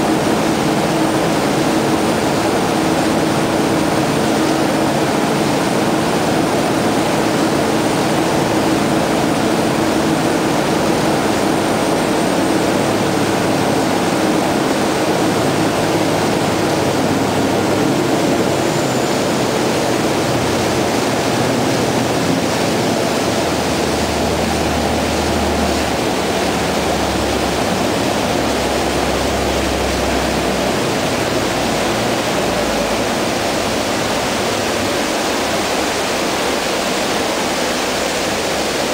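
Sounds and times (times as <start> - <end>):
diesel engines droning: 0.0 - 38.9
wake water rushing: 0.0 - 38.9.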